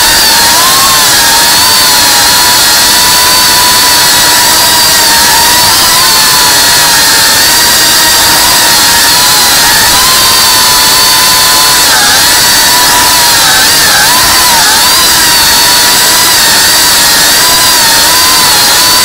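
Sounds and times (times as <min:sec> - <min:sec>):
drone motors whining: 0:00.0 - 0:19.0
loud hiss: 0:00.0 - 0:19.0.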